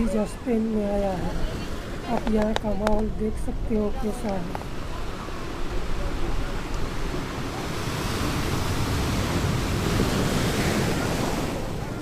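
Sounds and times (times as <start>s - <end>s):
sea surf washing onto beach: 0.0s - 12.0s
wind rumbling on microphone: 0.0s - 12.0s.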